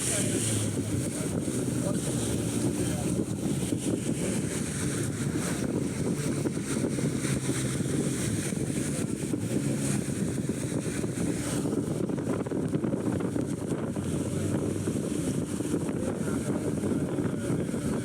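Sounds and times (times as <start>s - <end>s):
motorboat engine rumble: 0.0s - 18.0s
wind buffeting microphone: 0.0s - 18.0s.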